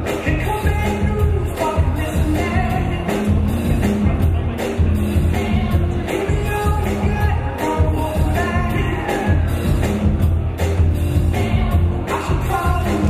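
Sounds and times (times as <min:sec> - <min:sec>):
song with sung vocal: 0:00.0 - 0:03.8, 0:05.1 - 0:10.2, 0:10.9 - 0:13.0
heavy bass beat: 0:00.0 - 0:13.0.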